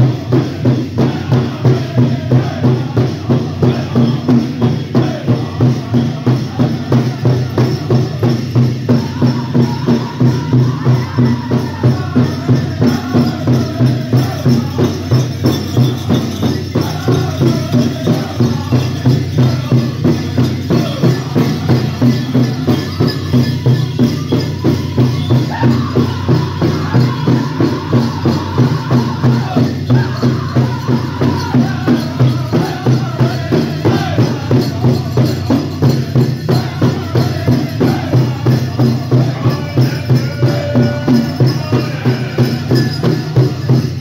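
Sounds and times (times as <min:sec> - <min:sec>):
jingles and bells shaking: 0:00.0 - 0:44.0
singers' voices: 0:00.0 - 0:44.0
steady drum beat: 0:00.0 - 0:44.0.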